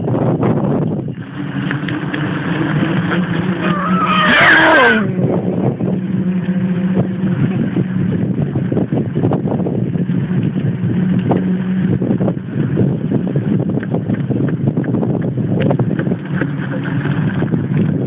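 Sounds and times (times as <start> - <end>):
low engine drone: 0.0 - 18.0
wind noise: 0.0 - 18.0.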